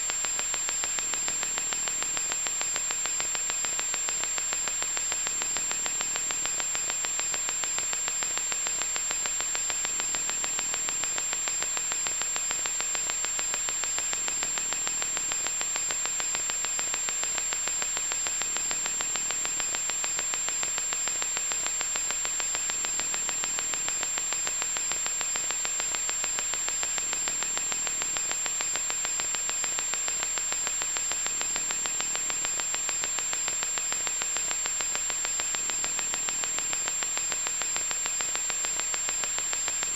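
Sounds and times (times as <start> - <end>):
static hiss with crackle: 0.0 - 39.9.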